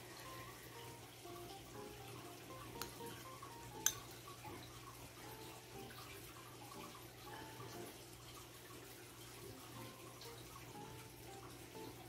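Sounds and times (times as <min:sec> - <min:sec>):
faint steady background: 0:00.0 - 0:12.0.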